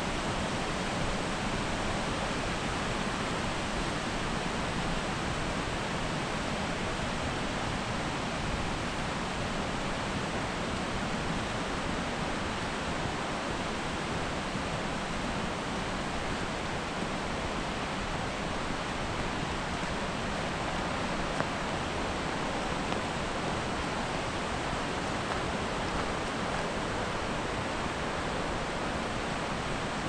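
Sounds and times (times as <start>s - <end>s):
flowing water rushing: 0.0s - 30.0s.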